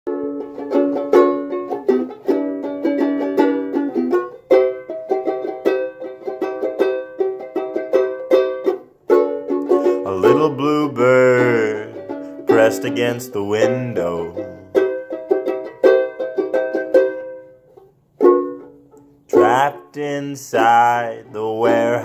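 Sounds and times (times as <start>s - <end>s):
plucked string instrument: 0.1s - 22.0s.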